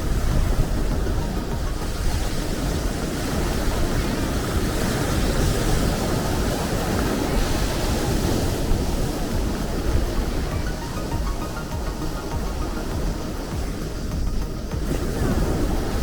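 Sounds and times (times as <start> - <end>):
sea surf washing: 0.0 - 16.0.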